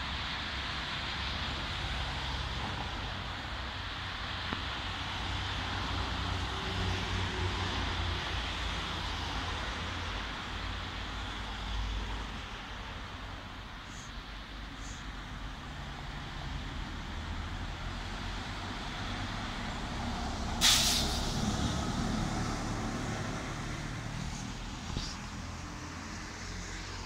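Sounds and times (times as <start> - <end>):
traffic rumble: 0.0 - 27.0
tyre hiss of passing cars: 0.0 - 27.0.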